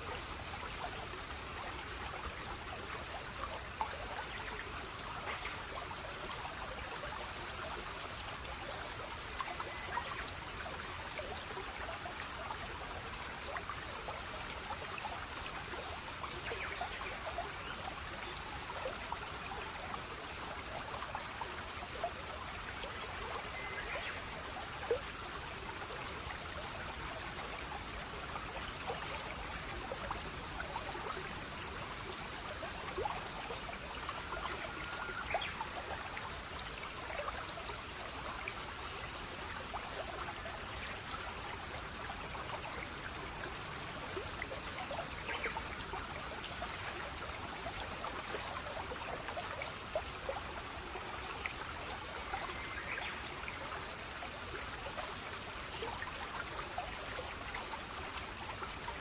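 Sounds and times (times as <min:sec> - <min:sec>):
stream trickling and gurgling: 0:00.0 - 0:59.0.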